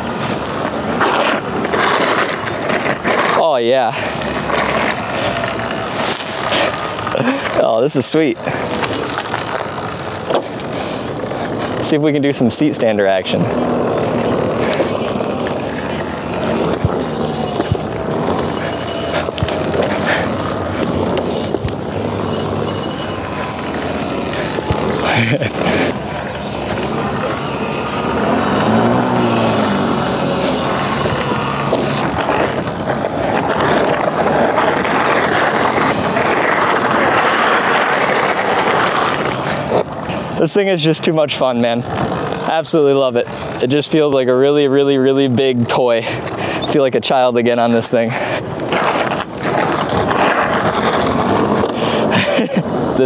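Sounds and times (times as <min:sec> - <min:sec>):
tyres rolling on asphalt: 0:00.0 - 0:53.0
wind rushing over microphone: 0:00.0 - 0:53.0.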